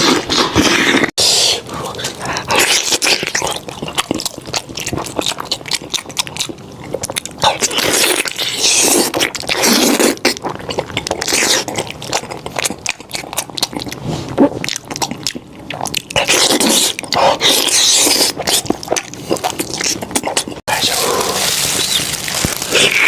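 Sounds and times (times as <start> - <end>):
slurping: 0.0 - 23.0
wet chewing and smacking: 0.0 - 23.0.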